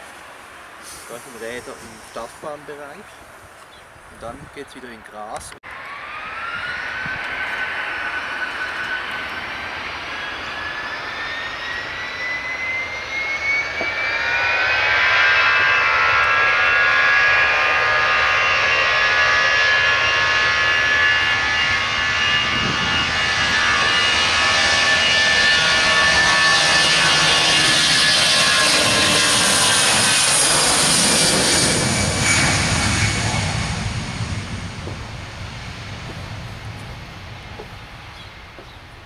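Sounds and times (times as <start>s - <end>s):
jet engines spooling up: 0.0s - 3.2s, 5.6s - 39.0s.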